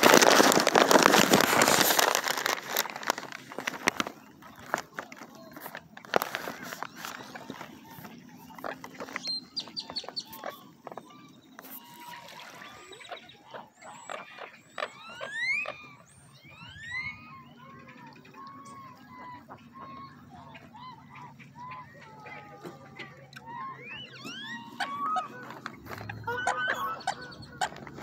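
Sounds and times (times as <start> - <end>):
water birds calling: 0.0 - 28.0.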